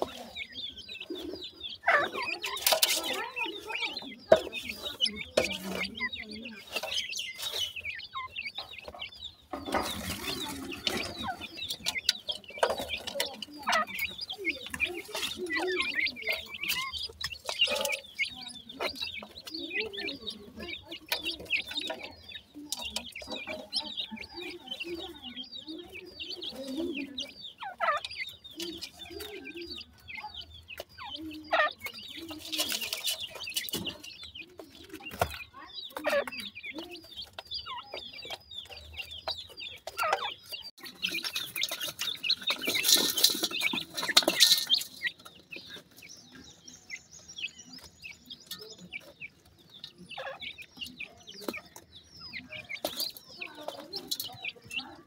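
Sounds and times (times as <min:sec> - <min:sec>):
chicks peeping: 0:00.0 - 0:55.0
rustling and scratching dry soil: 0:00.0 - 0:55.0.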